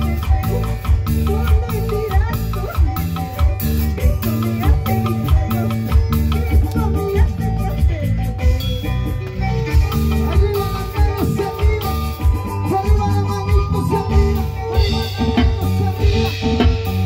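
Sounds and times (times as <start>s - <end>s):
drum kit with cymbals: 0.0s - 17.0s
electric bass: 0.0s - 17.0s.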